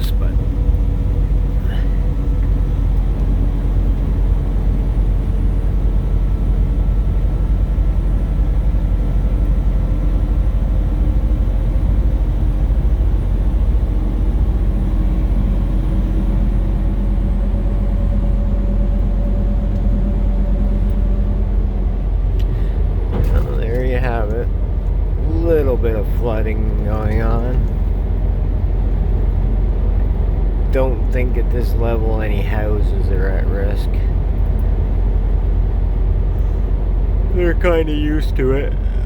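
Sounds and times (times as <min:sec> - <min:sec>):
car cabin road rumble: 0:00.0 - 0:39.0
faint engine hum: 0:00.0 - 0:39.0.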